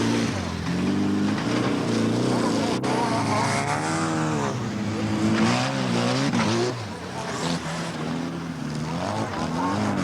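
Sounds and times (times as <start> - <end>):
stock car engines revving: 0.0 - 10.0.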